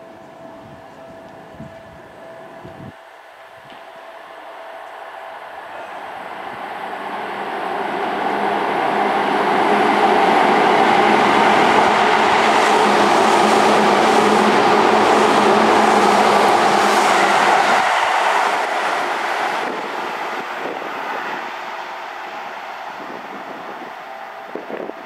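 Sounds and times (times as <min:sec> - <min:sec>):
train rushing past: 0:02.4 - 0:25.0.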